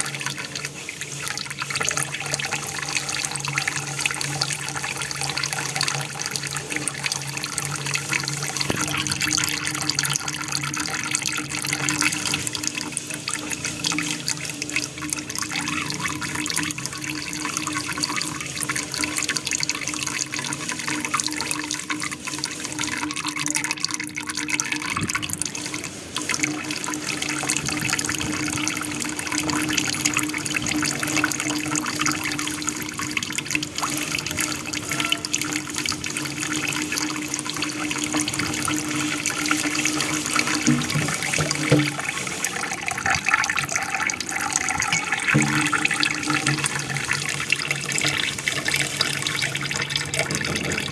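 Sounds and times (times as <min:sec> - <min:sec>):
water splashing and trickling: 0:00.0 - 0:50.9.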